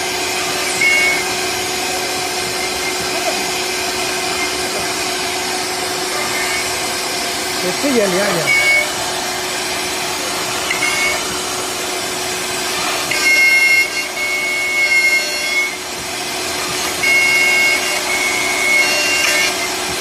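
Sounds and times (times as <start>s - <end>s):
high machine whine: 0.0s - 20.0s
woodworking machine humming: 0.0s - 20.0s.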